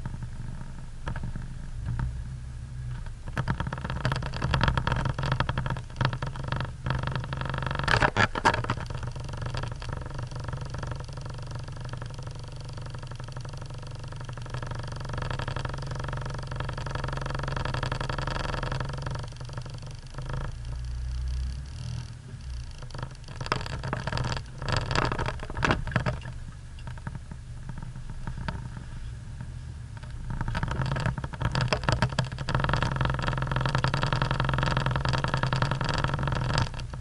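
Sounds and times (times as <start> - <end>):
vehicle knocking and rattling: 2.9 - 21.0, 22.4 - 37.0.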